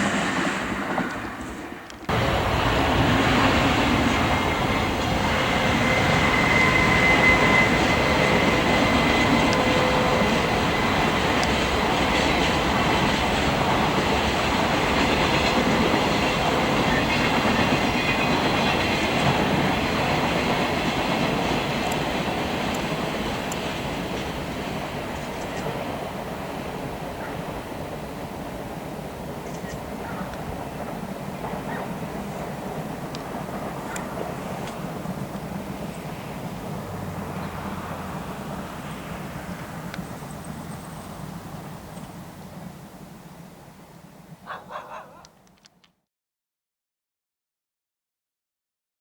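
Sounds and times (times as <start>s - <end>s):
train wheels clattering over rails: 0.0s - 45.2s.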